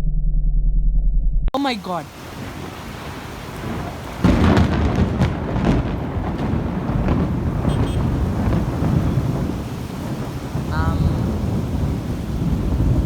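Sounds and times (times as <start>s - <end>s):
thunderclap and rumble: 2.1s - 13.0s.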